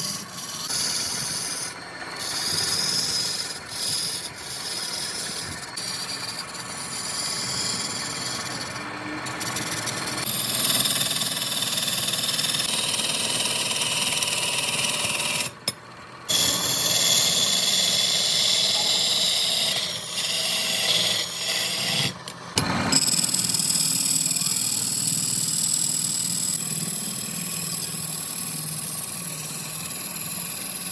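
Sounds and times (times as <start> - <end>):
woodworking machine cutting wood: 0.0 - 30.9.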